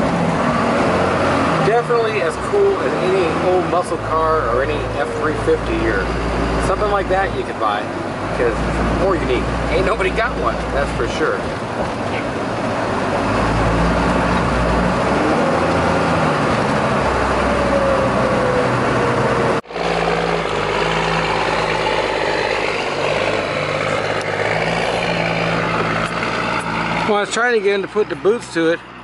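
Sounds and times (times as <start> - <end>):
diesel engine running: 0.0 - 29.0
road noise: 0.0 - 29.0
truck driving past: 0.0 - 29.0.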